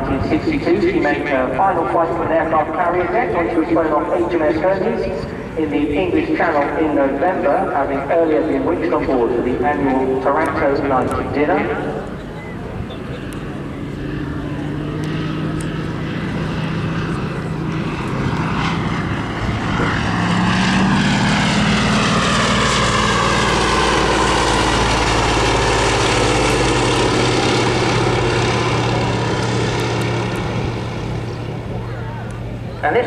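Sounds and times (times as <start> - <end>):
propeller plane flying past: 0.0 - 33.0.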